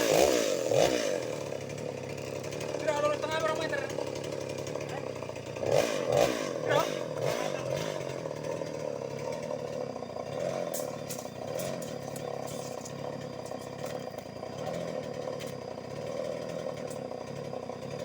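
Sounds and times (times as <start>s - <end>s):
chainsaw running at low speed: 0.0s - 18.0s.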